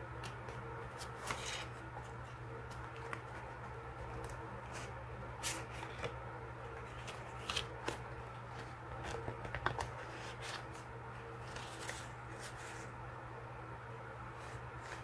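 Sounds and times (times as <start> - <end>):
paper sheets rustling and flicking: 0.2 - 6.1, 6.8 - 12.9.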